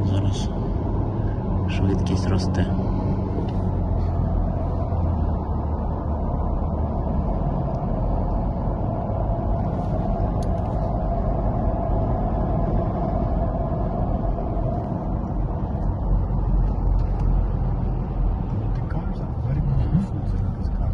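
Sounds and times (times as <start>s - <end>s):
car engine accelerating: 0.0s - 20.9s
road noise: 0.0s - 20.9s.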